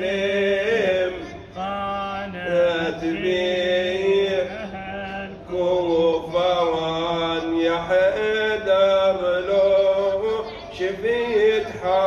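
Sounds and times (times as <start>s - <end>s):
person chanting into microphone: 0.0s - 12.0s.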